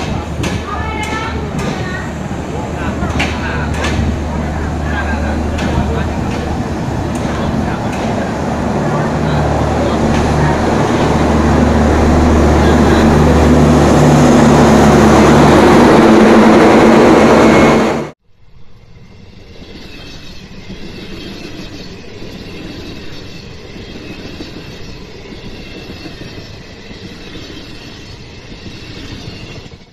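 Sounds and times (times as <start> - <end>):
diesel locomotive engine drone: 0.0 - 29.9
rail noise: 0.0 - 29.9.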